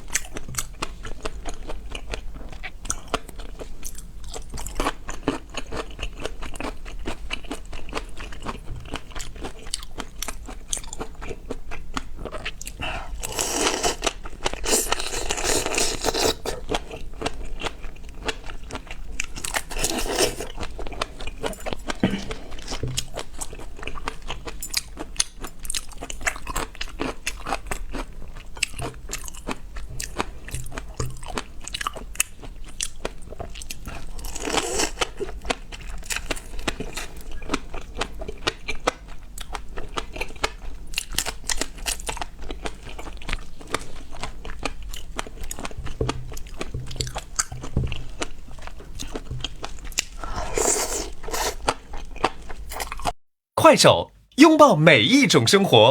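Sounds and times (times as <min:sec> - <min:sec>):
crunching and chewing seafood: 0:00.0 - 0:53.2.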